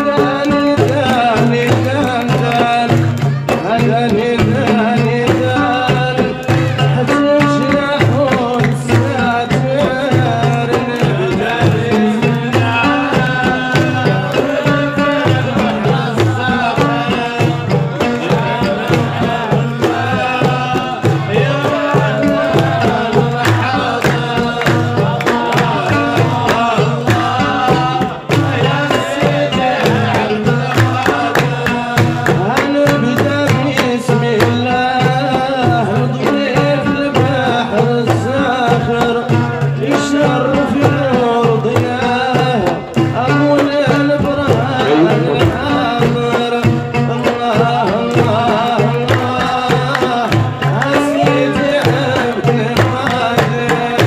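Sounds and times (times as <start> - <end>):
group of men singing: 0.0 - 54.0
hand clapping: 0.0 - 54.0
large drum beating: 0.0 - 54.0
man singing lead: 0.0 - 54.0.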